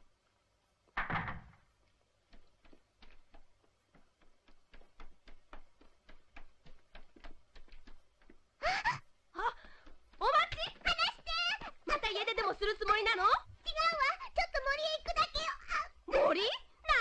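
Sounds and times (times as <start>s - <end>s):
child's footsteps on stone: 1.7s - 15.4s.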